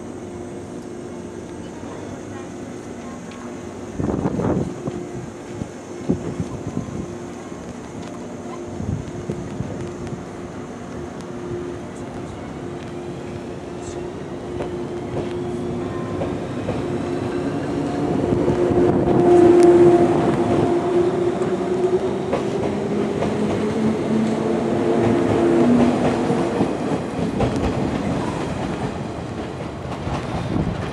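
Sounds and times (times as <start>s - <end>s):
electric train whine: 0.0s - 30.9s.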